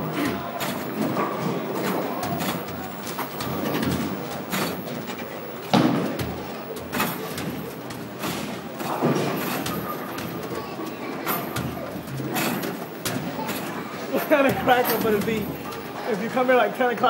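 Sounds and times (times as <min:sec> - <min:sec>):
basketballs thudding on backboard and rim: 0:00.0 - 0:16.0.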